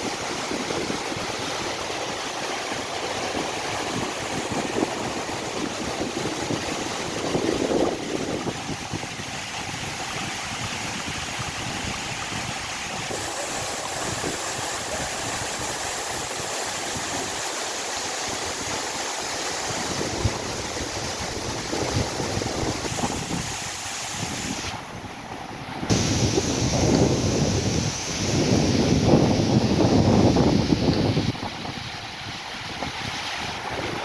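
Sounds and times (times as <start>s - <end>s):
waterfall rushing: 0.0s - 25.0s, 25.8s - 34.0s.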